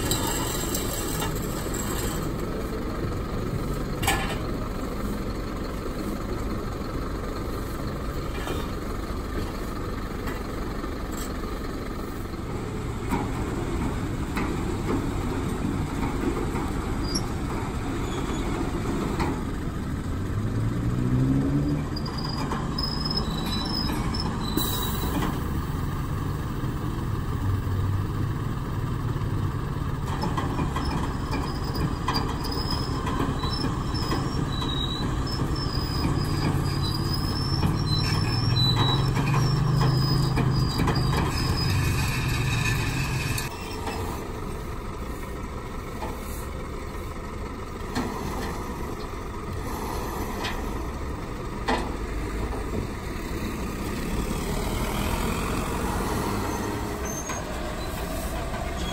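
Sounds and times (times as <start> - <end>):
street traffic noise: 0.0 - 58.9
truck engine humming: 0.0 - 58.9.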